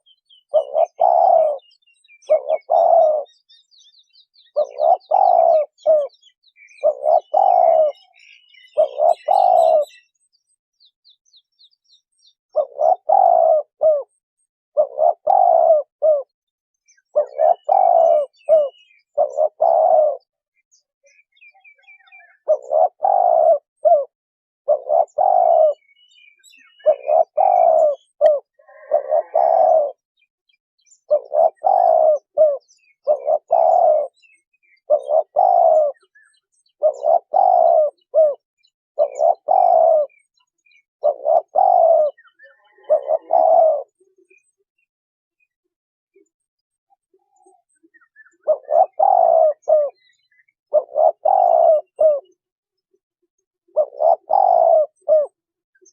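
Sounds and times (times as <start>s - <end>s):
dove cooing: 0.0s - 3.5s, 4.4s - 10.2s, 12.5s - 30.1s, 31.0s - 44.6s, 47.0s - 52.5s, 53.6s - 55.9s
small birds chirping: 0.0s - 55.9s.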